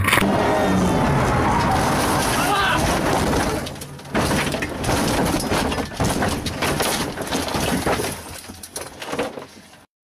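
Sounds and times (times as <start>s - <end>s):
car crashing knocks and crunches: 0.0s - 9.6s.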